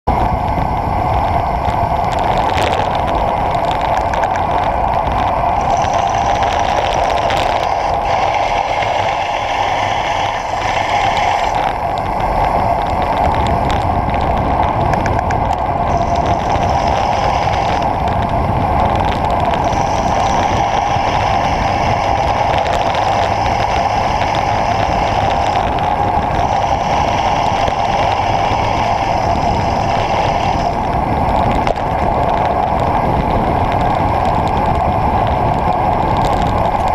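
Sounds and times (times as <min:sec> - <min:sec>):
bike tyre noise: 0:00.1 - 0:36.9
wind rushing: 0:00.1 - 0:36.9
high hiss: 0:00.3 - 0:14.8, 0:15.6 - 0:33.5.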